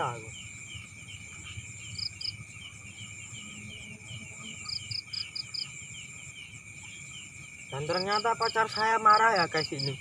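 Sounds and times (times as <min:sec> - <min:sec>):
cricket trilling: 0:00.0 - 0:10.0
insects chirping: 0:00.0 - 0:10.0.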